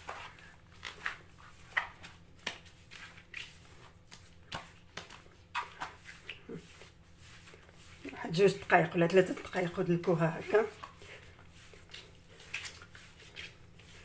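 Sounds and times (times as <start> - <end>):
hands kneading dough: 0.0 - 14.0.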